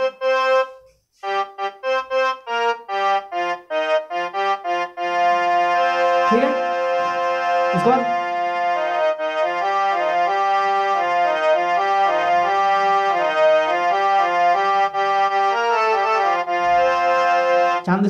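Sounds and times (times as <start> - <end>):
harmonium app melody: 0.0 - 18.0.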